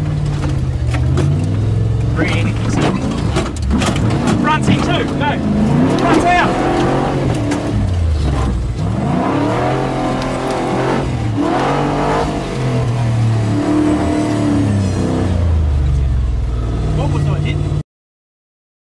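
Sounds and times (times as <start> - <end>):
engine revving: 0.8 - 17.8.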